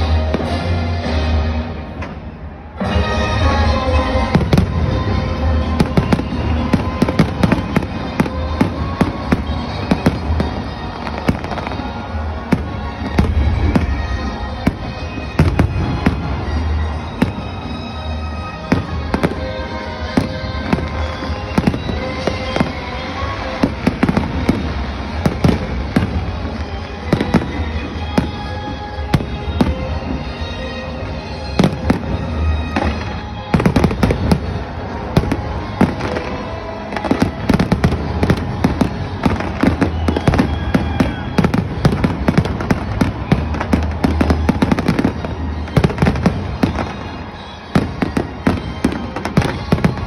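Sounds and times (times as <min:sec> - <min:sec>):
fireworks bangs and crackles: 0:00.0 - 0:50.0
music: 0:00.0 - 0:50.0.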